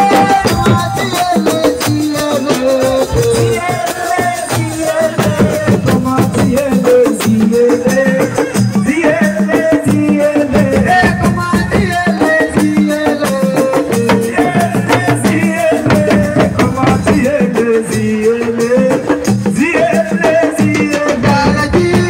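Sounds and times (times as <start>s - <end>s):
fast hand drum percussion: 0.0s - 22.0s
person singing: 0.0s - 22.0s.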